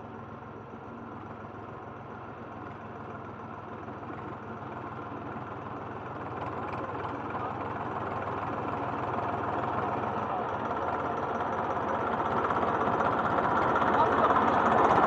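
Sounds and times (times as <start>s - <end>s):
steady engine hum: 0.0s - 15.0s.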